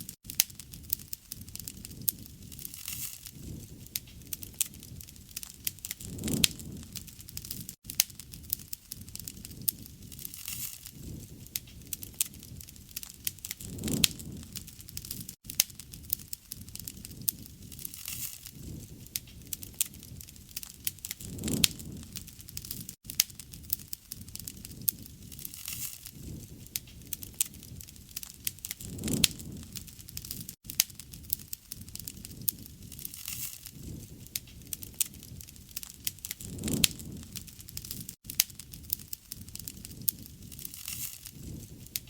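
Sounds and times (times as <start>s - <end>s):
low rushing of fire: 0.0s - 42.0s
wood fire crackling: 0.0s - 42.0s.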